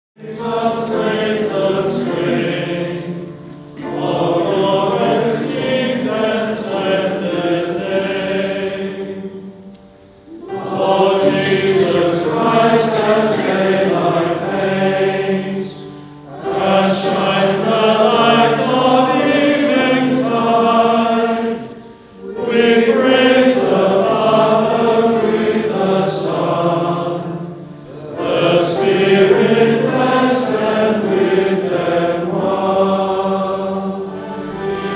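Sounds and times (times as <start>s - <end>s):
choir singing a chant: 0.2s - 9.7s, 10.3s - 34.9s.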